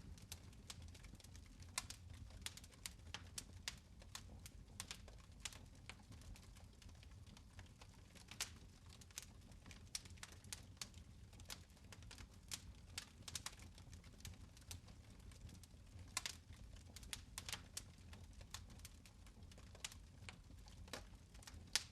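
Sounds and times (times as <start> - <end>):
fire crackling: 0.0 - 21.9
low rumble of flames: 0.0 - 21.9.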